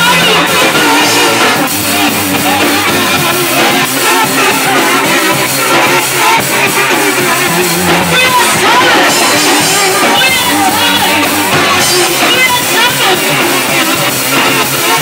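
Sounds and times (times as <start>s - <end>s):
drum kit: 0.0s - 15.0s
live band music: 0.0s - 15.0s
woman singing into a microphone: 0.0s - 15.0s.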